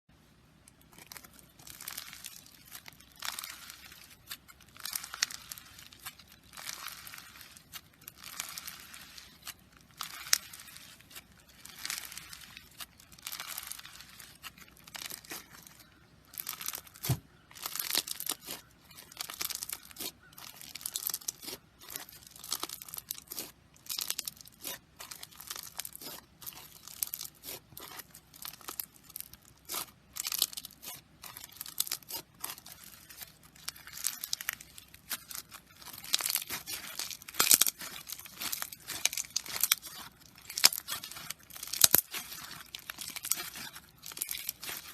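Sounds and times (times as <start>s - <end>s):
slime crackling and popping: 0.6s - 44.9s.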